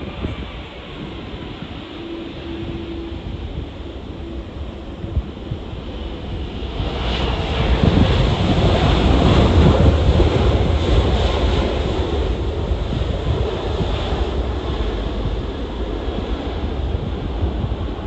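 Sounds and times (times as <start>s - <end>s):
jet airliner passing: 0.0s - 18.0s
wind buffeting microphone: 0.0s - 18.0s.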